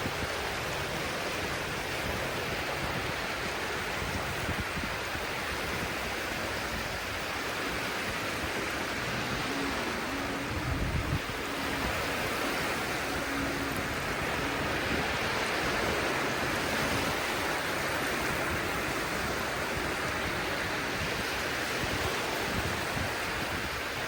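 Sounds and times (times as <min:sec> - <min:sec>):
waves washing on shore: 0:00.0 - 0:24.0.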